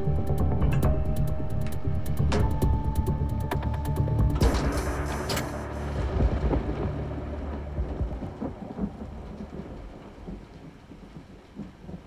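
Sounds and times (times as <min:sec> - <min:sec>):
low thunder rumble: 0:00.0 - 0:12.0
steady rain: 0:00.0 - 0:12.0.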